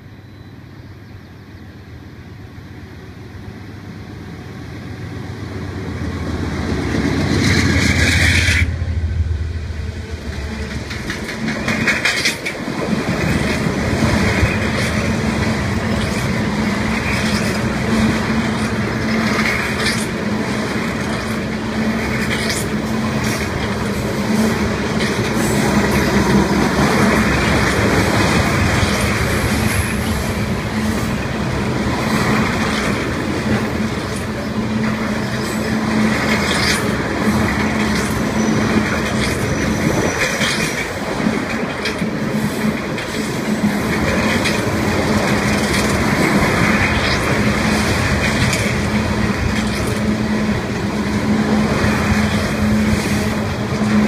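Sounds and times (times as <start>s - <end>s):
diesel locomotives rumbling: 0.0s - 54.0s
train wheels rumbling: 0.9s - 54.0s
wheels clacking over rail joints: 10.0s - 54.0s.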